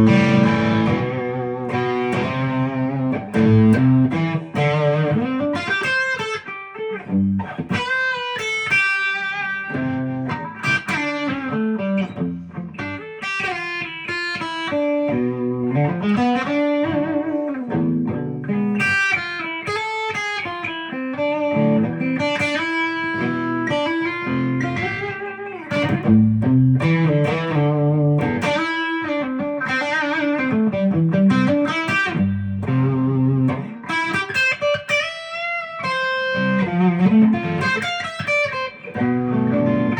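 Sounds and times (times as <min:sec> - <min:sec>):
electric guitar through an amp: 0:00.0 - 0:39.9.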